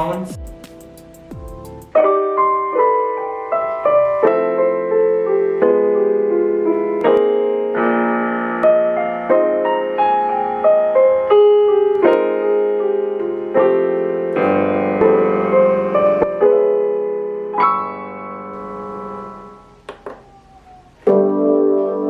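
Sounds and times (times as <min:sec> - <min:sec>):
keyboard piano melody: 0:00.0 - 0:22.0.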